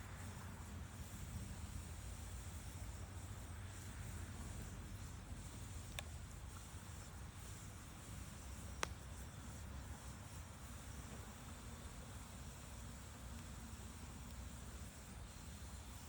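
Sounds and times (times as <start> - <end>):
campfire burning: 0.0 - 16.0
burning wood popping: 0.2 - 16.0.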